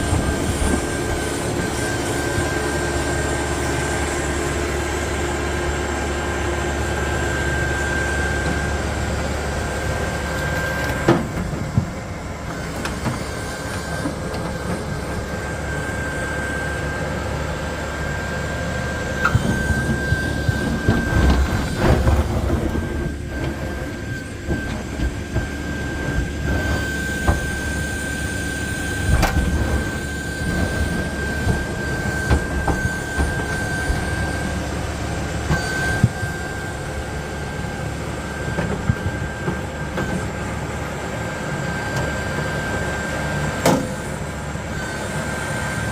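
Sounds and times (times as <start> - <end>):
backhoe loader engine running: 0.0 - 45.9.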